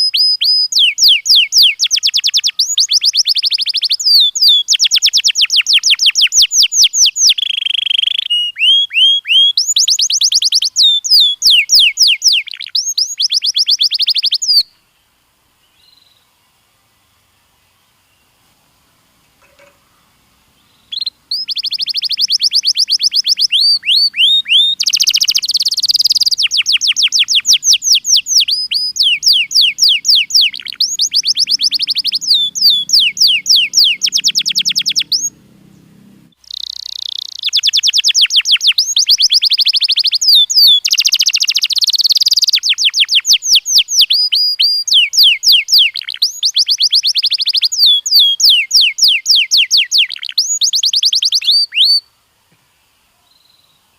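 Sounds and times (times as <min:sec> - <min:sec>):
canary singing trills: 0:00.0 - 0:14.8, 0:19.4 - 0:52.1.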